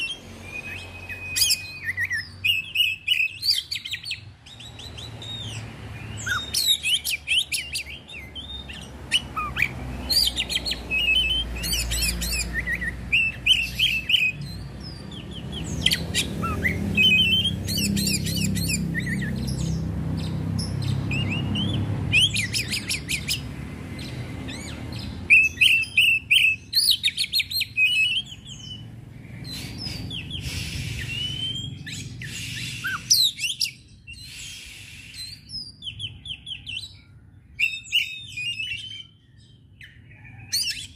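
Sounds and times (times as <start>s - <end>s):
songbird whistling and trilling: 0.0s - 40.9s.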